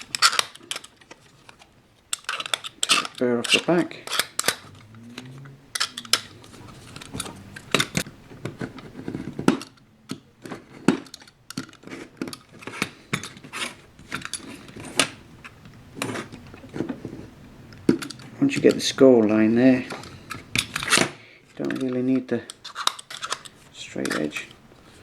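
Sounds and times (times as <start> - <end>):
craft knife scraping plastic: 0.0 - 19.0, 19.7 - 25.0.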